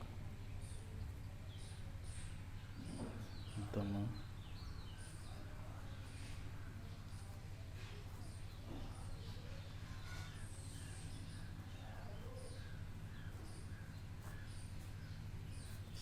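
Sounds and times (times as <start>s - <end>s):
faint birds chirping: 0.0s - 16.0s
steady low hum: 0.0s - 16.0s.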